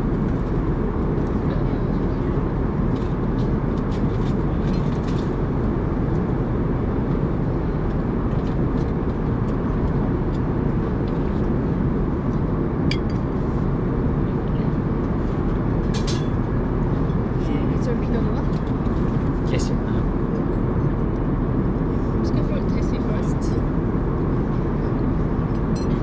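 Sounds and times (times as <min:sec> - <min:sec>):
airliner cabin noise: 0:00.0 - 0:26.0.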